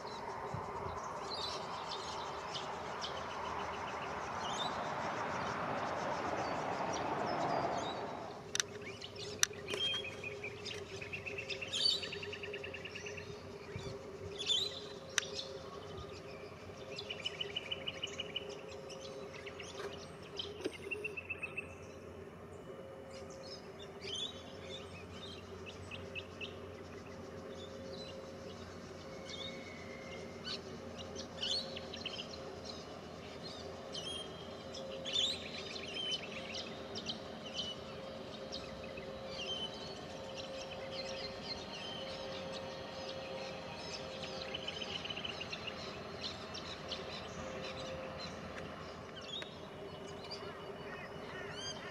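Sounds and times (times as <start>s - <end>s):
birds chirping and trilling: 0.0s - 51.9s
diesel locomotive hum: 0.0s - 51.9s.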